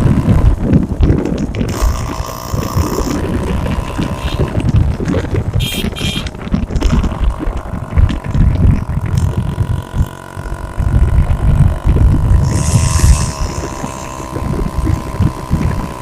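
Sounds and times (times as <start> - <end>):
two-stroke engine running: 0.0 - 16.0
wind buffeting microphone: 0.0 - 16.0.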